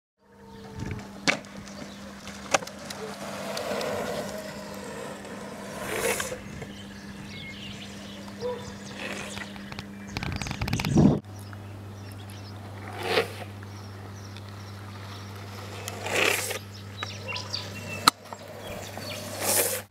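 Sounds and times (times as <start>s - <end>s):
longboard wheels rolling on asphalt: 0.5s - 11.3s, 12.1s - 19.9s.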